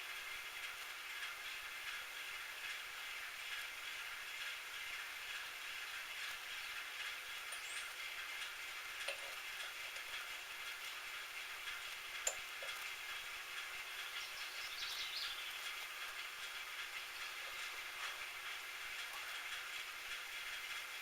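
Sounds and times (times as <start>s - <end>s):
metal lathe running: 0.2s - 21.0s.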